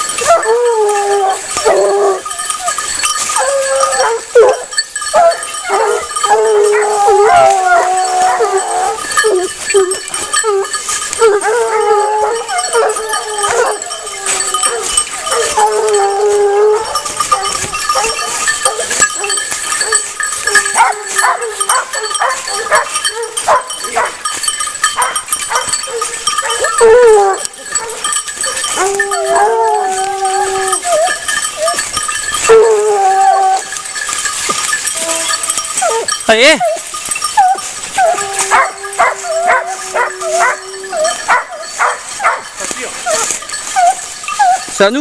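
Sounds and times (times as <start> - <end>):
bells ringing: 0.0 - 45.0
hounds baying: 0.0 - 45.0.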